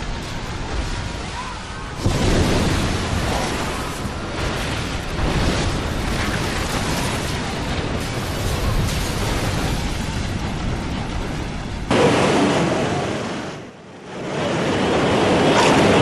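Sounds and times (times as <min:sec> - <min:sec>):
surf and breaking waves: 0:00.0 - 0:16.0.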